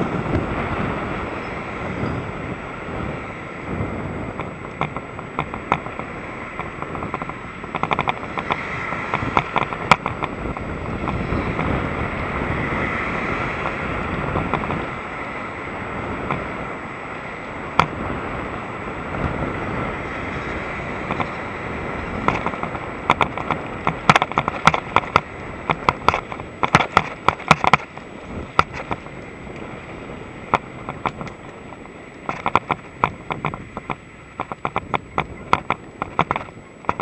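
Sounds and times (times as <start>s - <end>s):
mountain bike rattling over bumps: 0.0s - 37.0s
wind noise on microphone: 0.0s - 37.0s.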